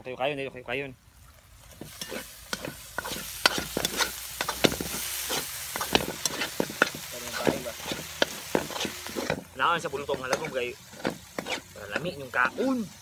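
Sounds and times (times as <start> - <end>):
meat sizzling in a wok: 1.1 - 13.0
metal spatula scraping a pan: 1.7 - 13.0.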